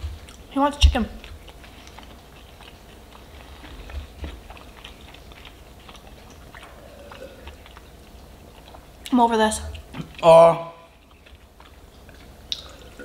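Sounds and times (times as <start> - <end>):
chewing food: 0.0 - 13.0
wet mouth clicks: 1.2 - 10.2, 11.0 - 13.0.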